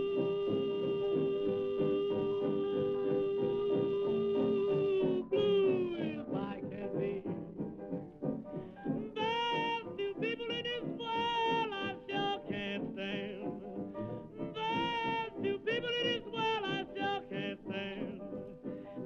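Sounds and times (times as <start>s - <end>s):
person singing: 0.0s - 7.7s, 9.0s - 19.0s
instrumental accompaniment: 0.0s - 19.0s.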